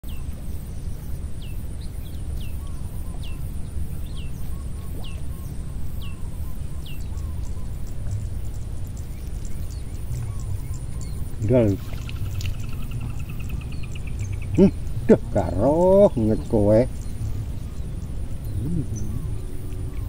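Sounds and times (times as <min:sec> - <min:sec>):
bird chirping: 0:00.0 - 0:20.0
low steady rumble: 0:00.0 - 0:20.0.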